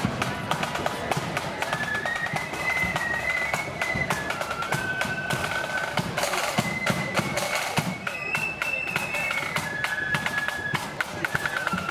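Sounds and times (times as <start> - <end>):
flutes playing melody: 0.0 - 11.9
snare drum strokes: 0.0 - 11.9.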